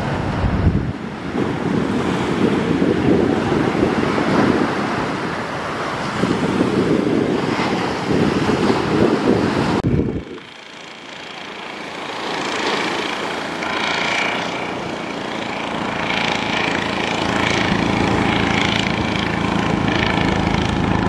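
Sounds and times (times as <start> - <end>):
sea surf breaking on beach: 0.0 - 21.0
wind buffeting microphone: 0.0 - 21.0.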